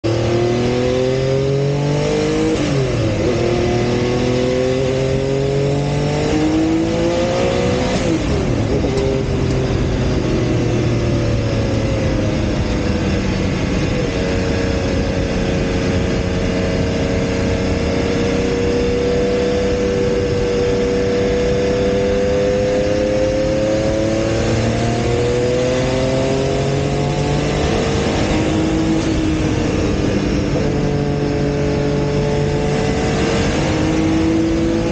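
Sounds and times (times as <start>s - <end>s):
race car engine accelerating: 0.0s - 34.9s
wind and road noise: 0.0s - 34.9s.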